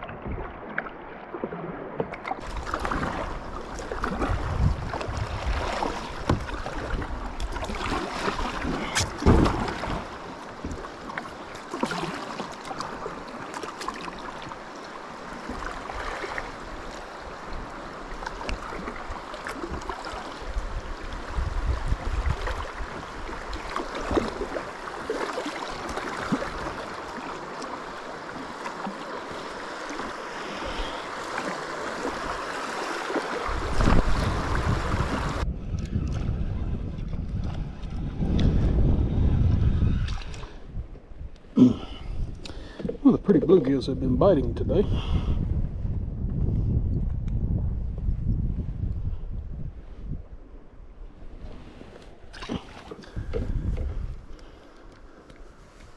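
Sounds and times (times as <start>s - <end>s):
water lapping around a kayak: 0.0s - 55.9s
wind rumbling on microphone: 2.4s - 12.0s, 15.3s - 27.0s, 30.0s - 55.9s.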